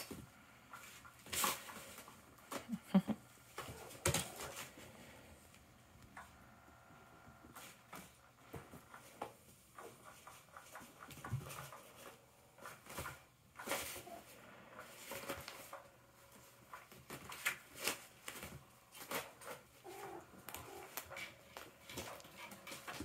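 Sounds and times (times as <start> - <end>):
kittens scratching and rustling: 0.0 - 2.8, 3.4 - 23.0.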